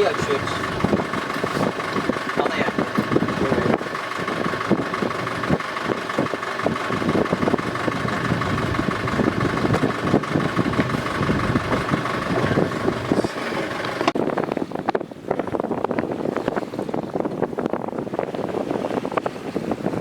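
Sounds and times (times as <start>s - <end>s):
boat motor chugging: 0.0s - 20.0s.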